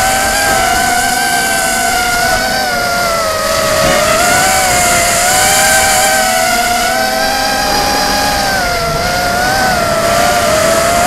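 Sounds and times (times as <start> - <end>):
drone motors whining: 0.0 - 11.0
wind noise: 0.0 - 11.0.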